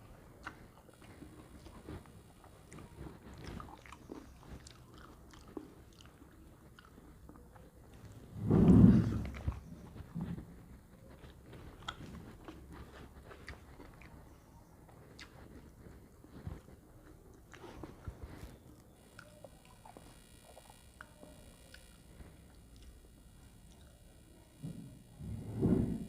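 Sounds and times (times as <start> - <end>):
person chewing and crunching: 0.0 - 8.3, 9.1 - 25.1.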